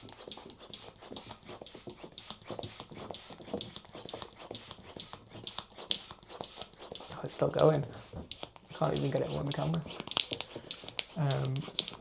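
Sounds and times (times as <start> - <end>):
hands rubbing latex balloon: 0.0 - 12.0.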